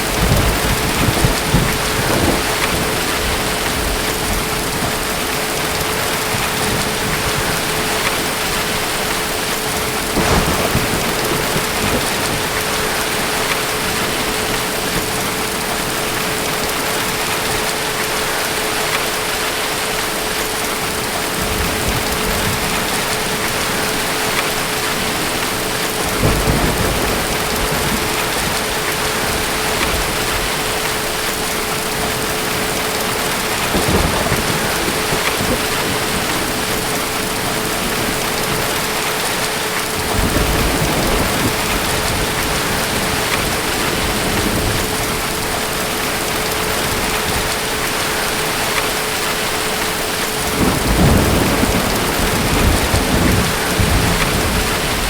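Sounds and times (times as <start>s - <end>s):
distant thunder rumbling: 0.0s - 18.2s, 19.9s - 55.0s
heavy rain: 0.0s - 55.0s.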